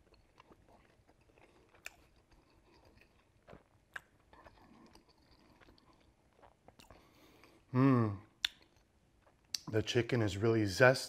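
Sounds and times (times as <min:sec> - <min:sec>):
person chewing crispy food: 0:00.0 - 0:09.7.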